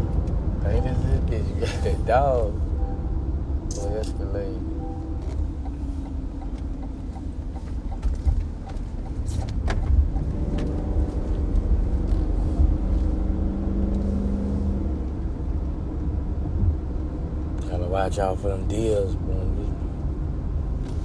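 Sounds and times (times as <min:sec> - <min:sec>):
car interior road and engine rumble: 0:00.0 - 0:21.0.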